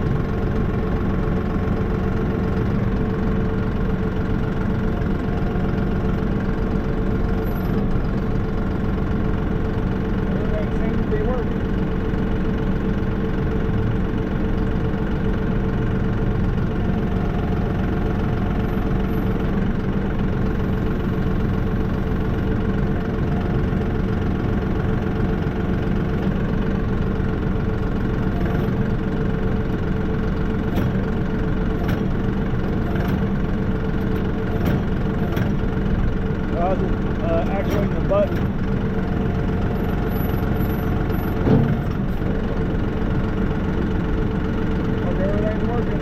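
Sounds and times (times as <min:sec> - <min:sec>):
tractor diesel engine idling: 0:00.0 - 0:46.0.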